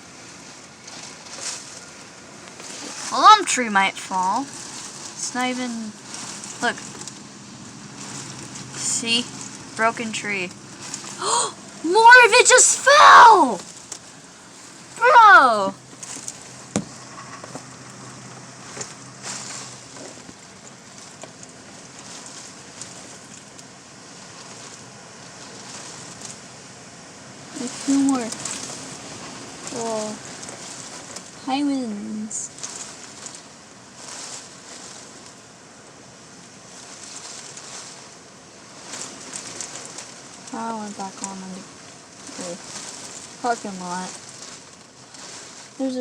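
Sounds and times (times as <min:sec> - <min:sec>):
wind and rain rushing: 0:00.0 - 0:46.0.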